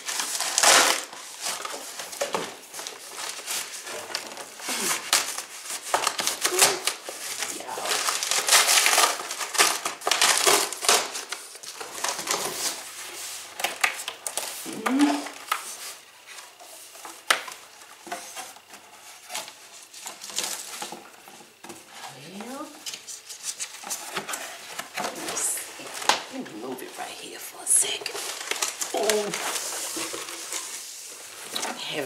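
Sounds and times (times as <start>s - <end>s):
cardboard rustling and scraping: 0.0s - 27.0s, 28.0s - 32.0s.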